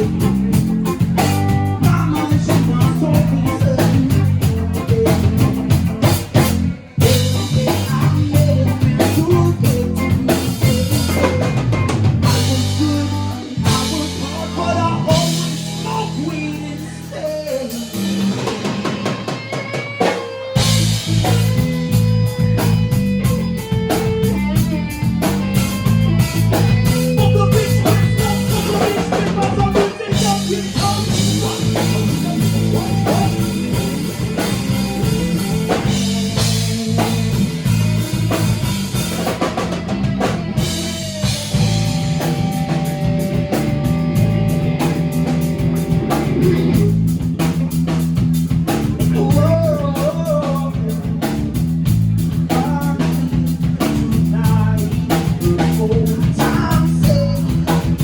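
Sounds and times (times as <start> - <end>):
held low bass notes: 0.0 - 18.4, 20.6 - 58.0
live rock band playing: 0.0 - 58.0.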